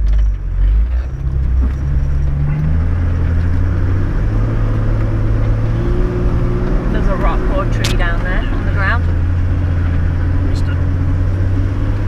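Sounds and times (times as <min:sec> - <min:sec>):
off-road vehicle engine low revs: 0:00.0 - 0:12.0.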